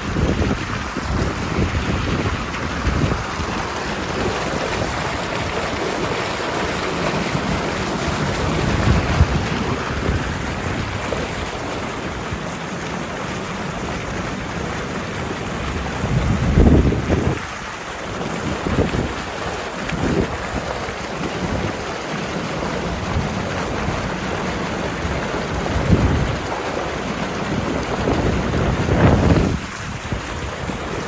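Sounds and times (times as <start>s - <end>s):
wind buffeting microphone: 0.0s - 12.6s, 15.4s - 31.0s
floodwater rushing through culvert: 0.0s - 31.0s.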